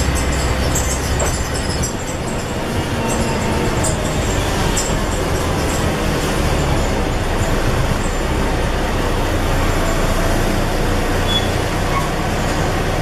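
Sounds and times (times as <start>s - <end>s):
bus diesel engine rumble: 0.0s - 13.0s
road noise: 0.0s - 13.0s.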